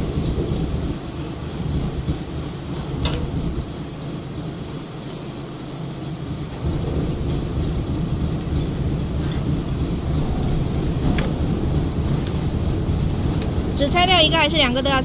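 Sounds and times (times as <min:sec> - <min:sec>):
machinery rumbling: 0:00.0 - 0:15.0.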